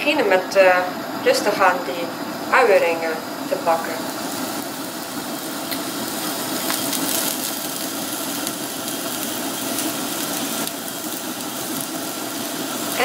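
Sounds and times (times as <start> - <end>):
onion rings sizzling in oil: 0.1 - 13.0.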